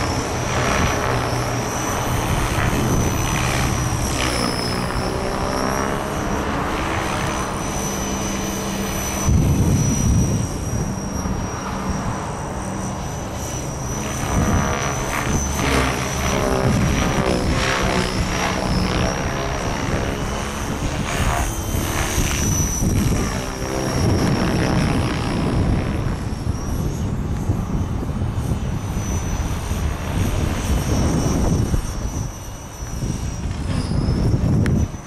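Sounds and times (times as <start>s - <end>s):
model helicopter whine: 0.0s - 35.0s.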